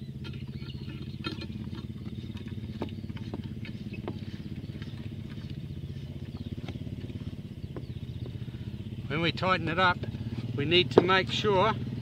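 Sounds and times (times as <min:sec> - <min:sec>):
steady low mechanical hum: 0:00.0 - 0:12.0.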